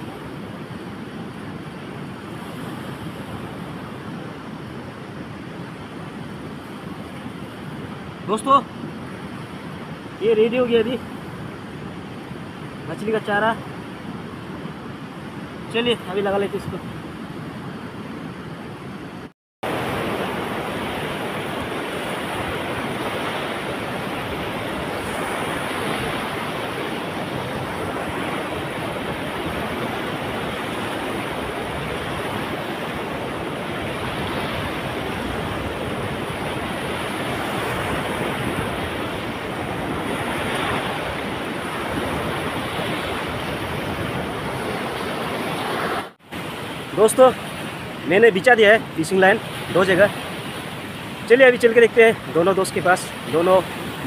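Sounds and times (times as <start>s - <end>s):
river rushing: 0.0s - 54.0s
waves washing against bank: 0.0s - 54.0s.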